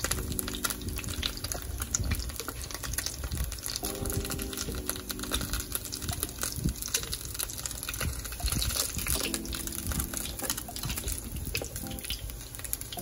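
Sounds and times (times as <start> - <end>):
dumplings sizzling in oil: 0.0 - 13.0.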